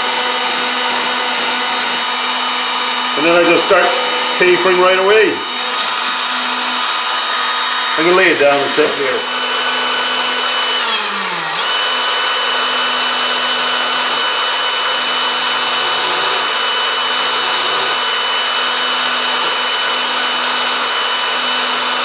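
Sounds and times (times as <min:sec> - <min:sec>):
electric drill humming and whining: 0:00.0 - 0:22.0.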